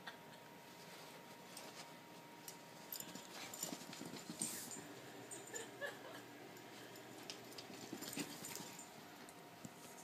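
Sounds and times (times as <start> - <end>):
faint clicks and rustles: 0.4 - 5.9, 6.5 - 10.0.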